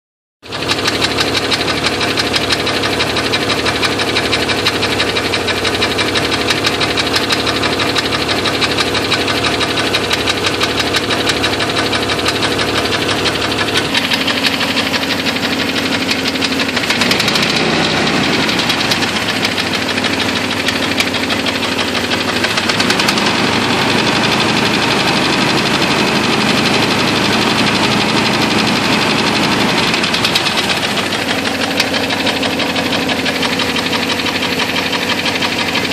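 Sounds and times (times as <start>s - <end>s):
engine running with ticking knock: 0.4s - 35.9s.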